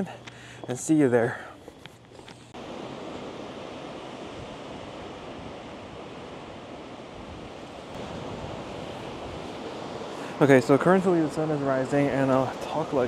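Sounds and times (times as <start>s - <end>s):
sea surf: 2.5s - 13.0s
strong wind: 2.5s - 13.0s.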